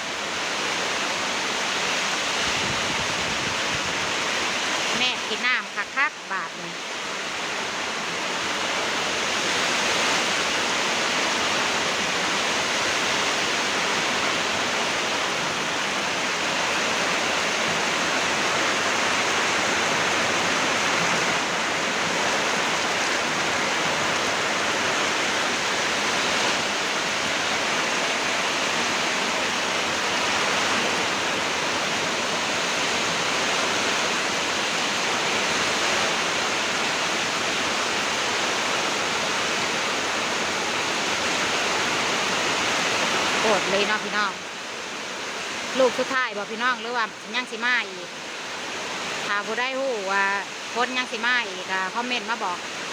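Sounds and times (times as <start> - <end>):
water rushing in a storm: 0.0 - 52.9.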